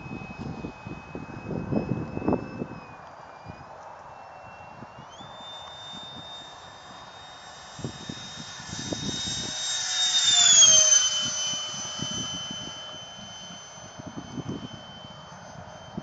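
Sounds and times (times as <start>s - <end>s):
wind buffeting microphone: 0.0s - 3.8s, 4.7s - 16.0s
electric jet fan whining: 0.0s - 16.0s.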